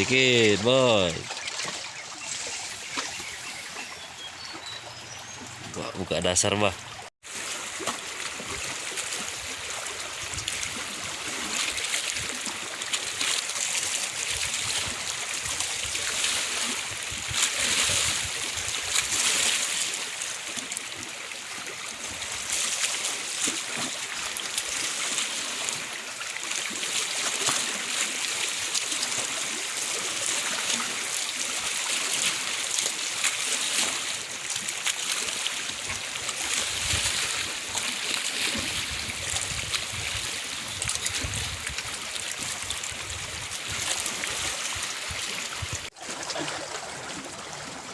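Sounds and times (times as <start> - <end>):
flowing splashing water: 0.0 - 47.9.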